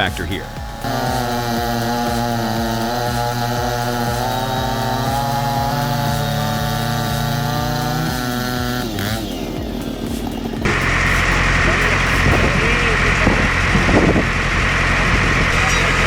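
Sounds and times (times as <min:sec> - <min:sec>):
chainsaw cutting wood: 0:00.0 - 0:15.6.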